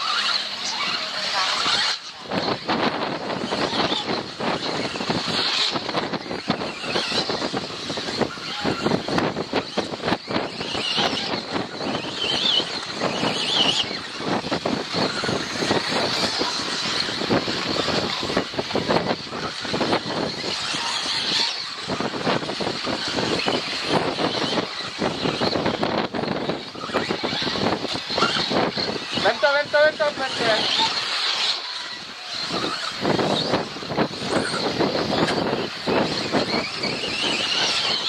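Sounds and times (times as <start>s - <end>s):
radio-controlled car motors whining: 0.0s - 38.0s
rough rushing noise: 0.0s - 38.0s.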